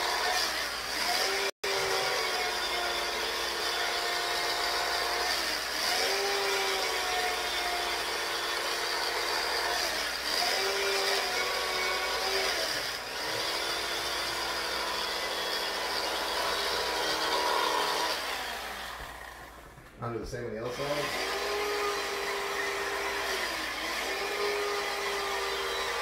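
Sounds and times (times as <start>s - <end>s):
electric carving knife motor hum: 0.0s - 19.6s, 20.7s - 26.0s.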